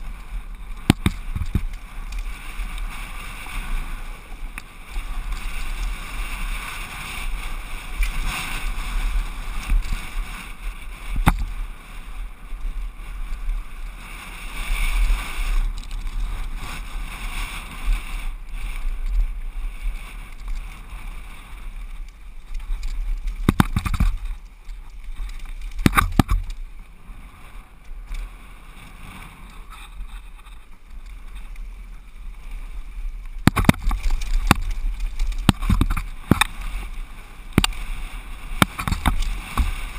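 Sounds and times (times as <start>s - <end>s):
tyre noise on dirt: 0.0s - 39.9s
wind on microphone: 0.0s - 39.9s.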